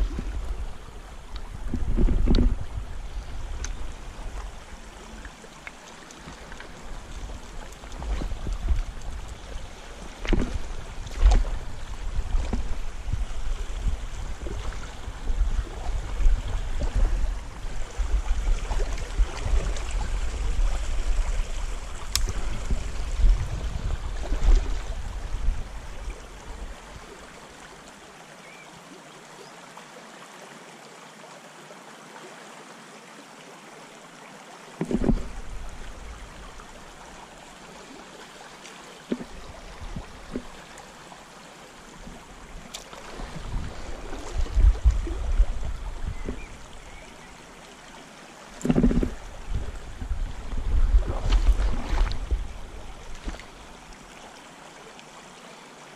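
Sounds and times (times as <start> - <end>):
river water rippling over stones: 0.0 - 55.9.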